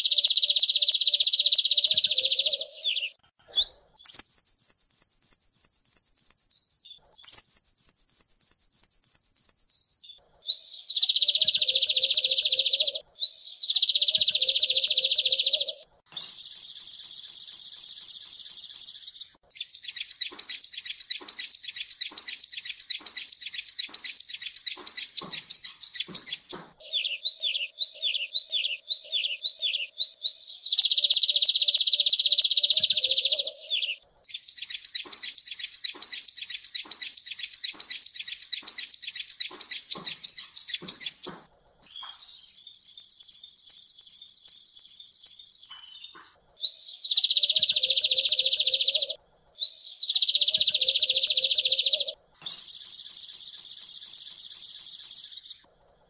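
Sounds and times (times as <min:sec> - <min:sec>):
bird song with buzzy trills: 0:00.0 - 0:56.0.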